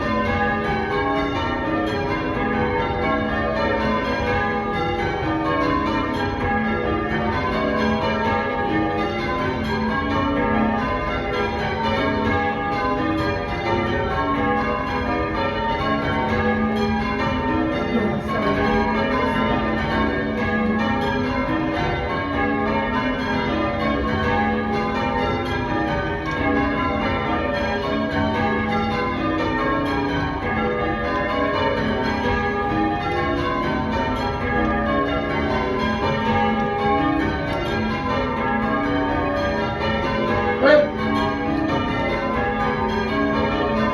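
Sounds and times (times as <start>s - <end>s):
church bells change ringing: 0.0s - 43.9s.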